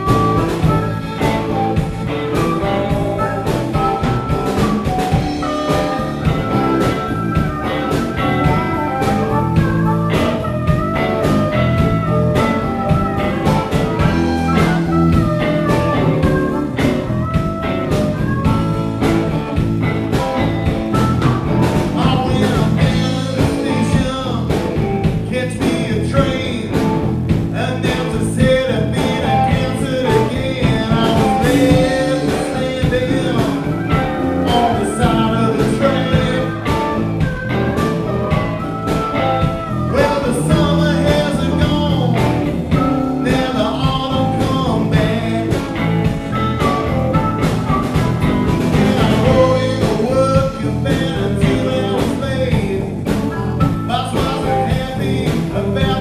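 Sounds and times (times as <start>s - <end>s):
live blues band playing: 0.0s - 56.0s.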